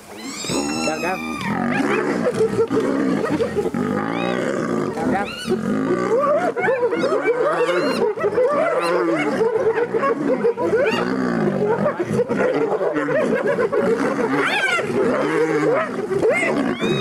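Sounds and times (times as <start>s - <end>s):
high sliding hyena calls: 0.0s - 17.0s.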